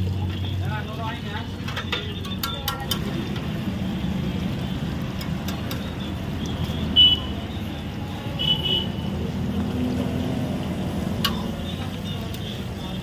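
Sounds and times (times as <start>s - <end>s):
hot oil sizzling: 0.0s - 13.0s
street traffic rumble: 0.0s - 13.0s.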